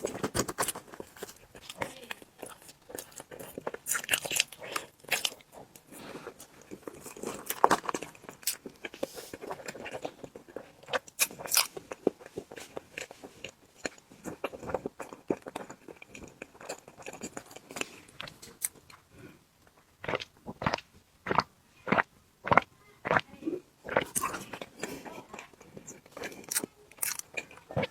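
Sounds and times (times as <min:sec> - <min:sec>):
wet chewing and biting: 0:00.0 - 0:19.0, 0:19.8 - 0:23.2, 0:23.8 - 0:27.9.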